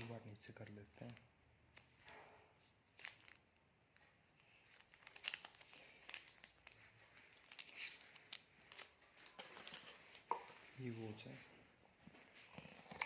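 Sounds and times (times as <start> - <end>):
packaging crinkling and rustling: 0.0 - 11.3.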